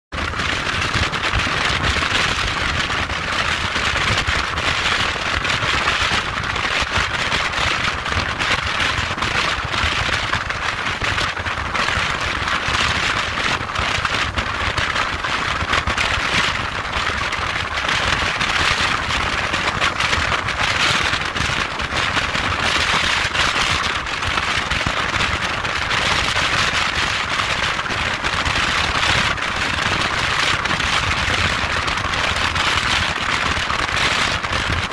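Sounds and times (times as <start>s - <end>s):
rushing wind: 0.1s - 34.9s.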